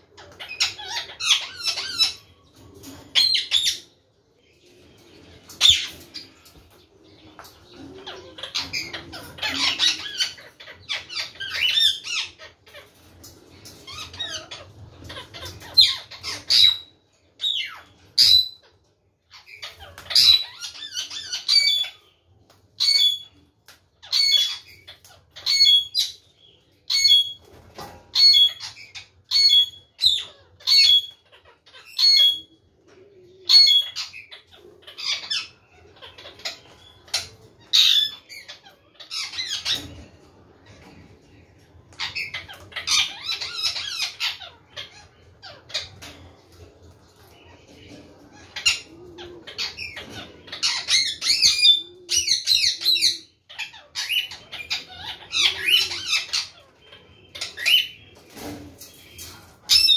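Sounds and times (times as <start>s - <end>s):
parakeets squawking: 0.0s - 4.1s, 4.8s - 59.9s
parakeets chattering: 0.0s - 59.9s.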